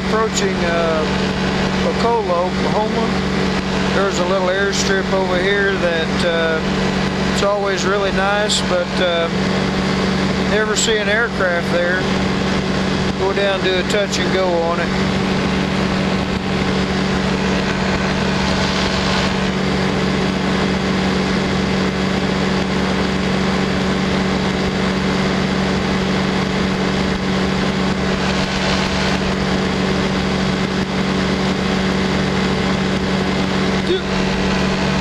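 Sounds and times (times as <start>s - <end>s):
light aircraft engine droning: 0.0s - 35.0s
wind rushing over microphone: 0.0s - 35.0s.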